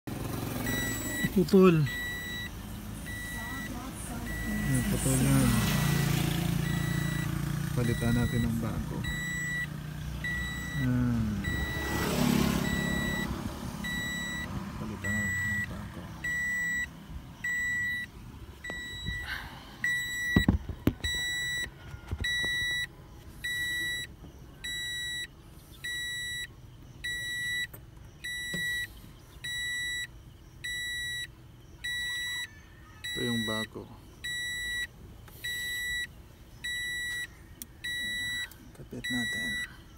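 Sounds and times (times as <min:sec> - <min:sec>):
car warning chime beeping: 0:00.6 - 0:39.9.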